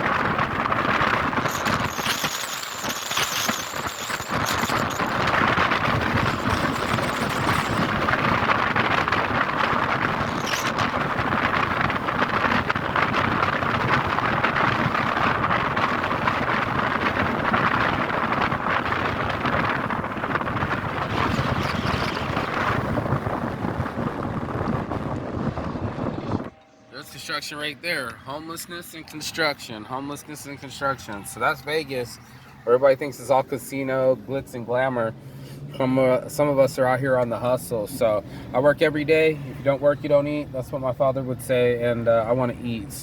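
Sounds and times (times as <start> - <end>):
car road and wind noise: 0.0 - 43.0.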